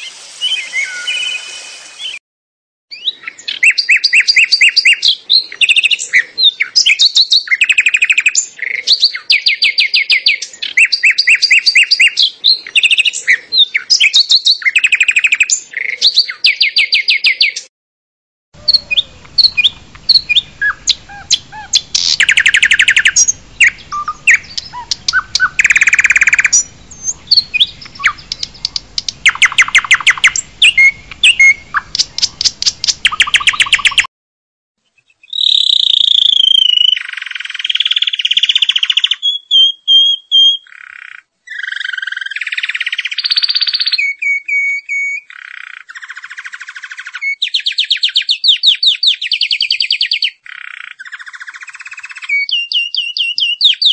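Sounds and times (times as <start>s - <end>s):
birds chirping and trilling: 0.0s - 2.2s, 2.9s - 17.7s, 18.6s - 34.1s, 34.9s - 53.9s.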